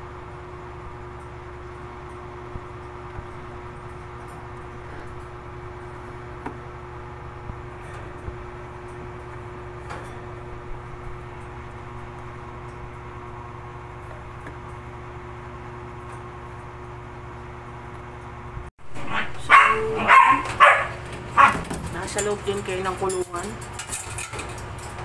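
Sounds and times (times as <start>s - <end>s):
low hum with held tone: 0.0s - 25.0s.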